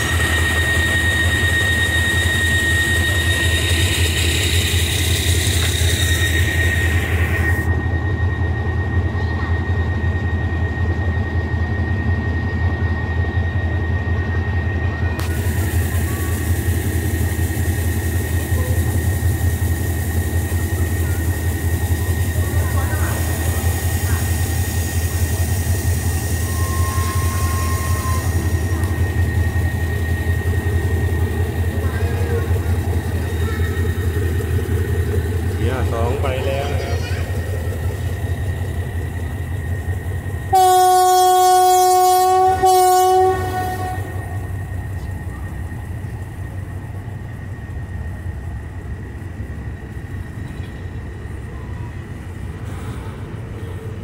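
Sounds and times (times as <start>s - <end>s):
locomotive engine idling: 0.0s - 7.7s, 14.9s - 54.0s.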